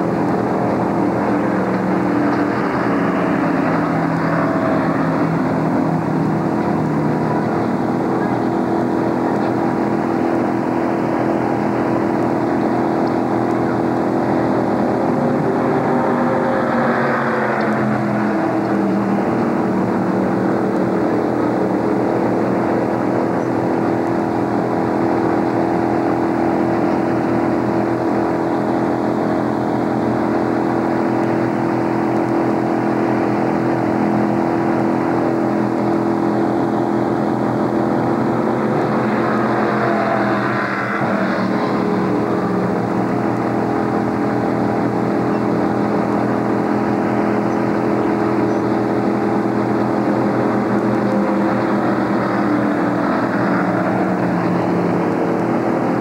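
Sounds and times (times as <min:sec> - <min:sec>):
engine sweeping in pitch: 0:00.0 - 0:56.0
engines idling: 0:00.0 - 0:56.0.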